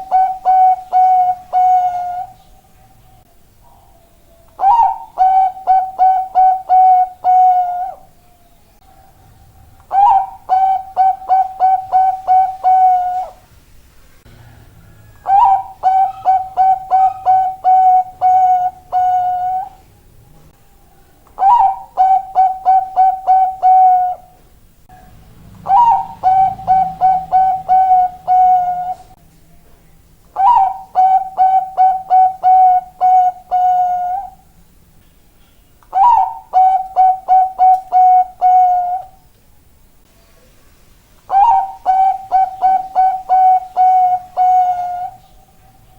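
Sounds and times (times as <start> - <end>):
dove cooing: 0.0 - 8.2, 8.8 - 13.5, 14.3 - 19.8, 21.2 - 24.4, 25.5 - 29.2, 30.4 - 34.5, 35.9 - 39.2, 41.3 - 45.9.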